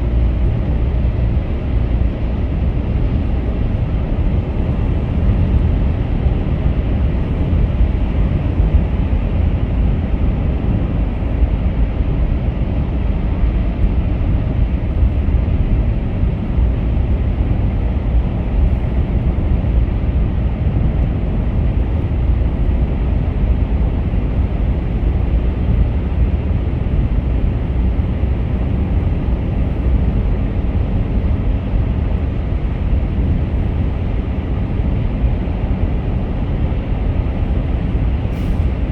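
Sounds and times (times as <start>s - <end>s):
car driving at highway speed: 0.0s - 38.9s.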